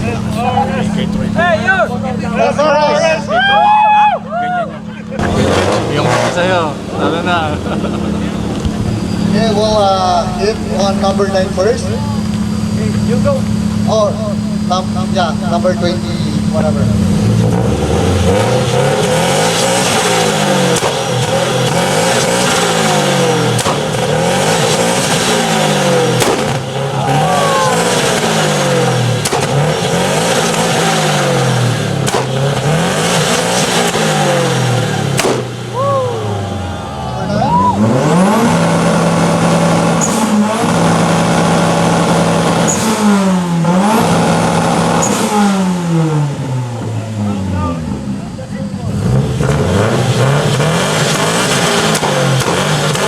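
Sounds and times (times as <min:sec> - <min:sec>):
car engine revving: 0:00.0 - 0:53.0
engine bouncing on launch limiter: 0:00.0 - 0:53.0
exhaust cracks: 0:00.0 - 0:53.0.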